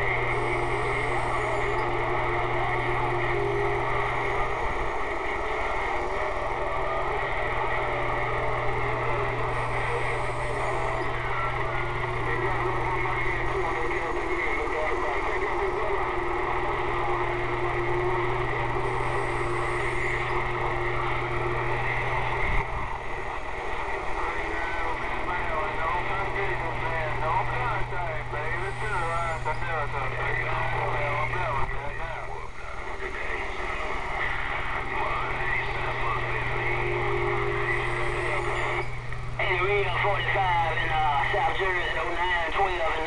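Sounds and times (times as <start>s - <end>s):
faint steady whistle: 0.0s - 31.2s, 32.7s - 42.0s
faint garbled radio voices: 0.0s - 43.0s
low hum: 0.0s - 43.0s
radio static: 0.0s - 43.0s
steady tone: 0.0s - 43.0s.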